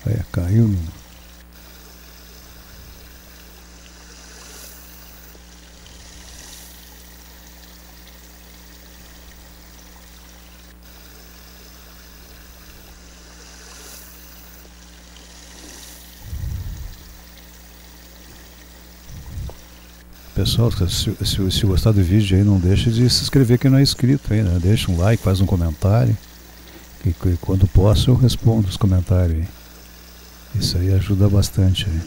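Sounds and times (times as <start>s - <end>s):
stream running over stones: 0.0s - 32.0s.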